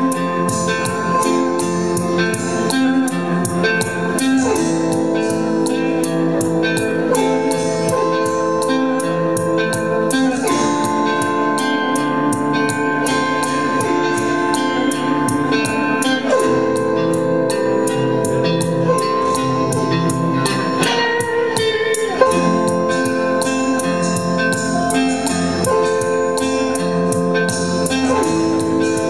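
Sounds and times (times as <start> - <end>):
autoharp plucked chords: 0.0 - 29.0
steady ticking beat: 0.0 - 29.0
sustained electric guitar notes: 0.0 - 29.0.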